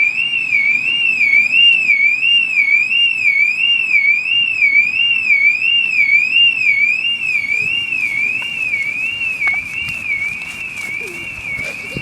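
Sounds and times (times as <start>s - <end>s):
car alarm warbling: 0.0s - 12.0s.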